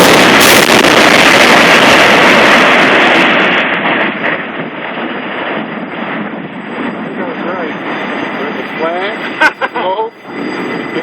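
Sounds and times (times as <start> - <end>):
demolition explosion roar: 0.0 - 11.0.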